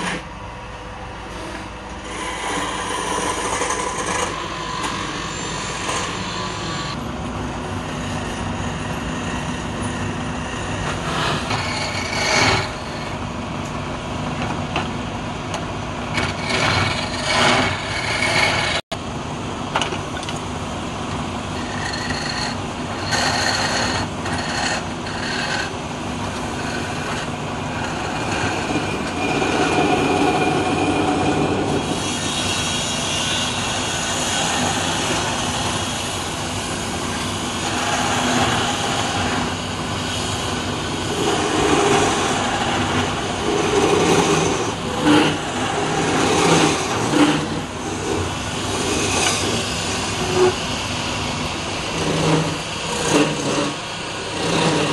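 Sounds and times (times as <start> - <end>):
chisel scraping spinning wood: 0.0 - 0.3, 1.3 - 7.0, 7.7 - 13.3, 16.1 - 18.8, 21.5 - 36.0, 36.9 - 54.9
wood lathe motor: 1.3 - 13.3, 16.0 - 18.8, 21.5 - 54.9.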